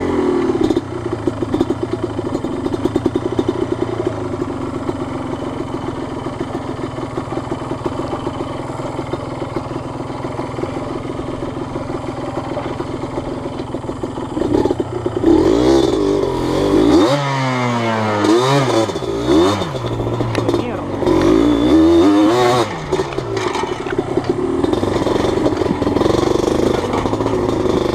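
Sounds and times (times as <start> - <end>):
two-stroke engine running and revving: 0.0 - 27.9.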